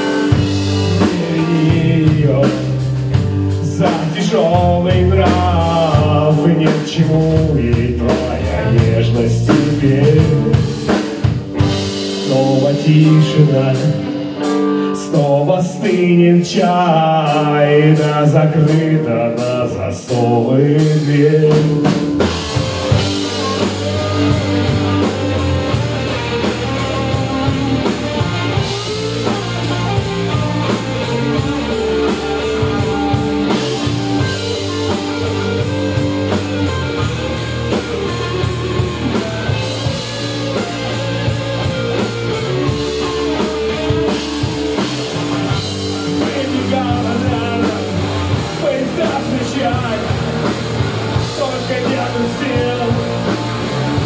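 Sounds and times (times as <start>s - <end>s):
bass guitar: 0.0s - 54.0s
drum kit with cymbals: 0.0s - 54.0s
electric guitars: 0.0s - 54.0s.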